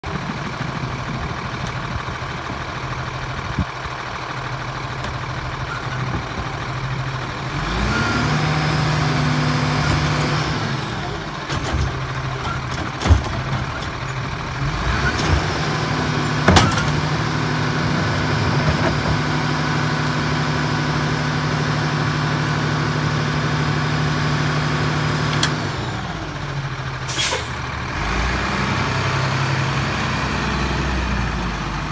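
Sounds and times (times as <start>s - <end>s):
garbage truck diesel engine: 0.0s - 31.9s.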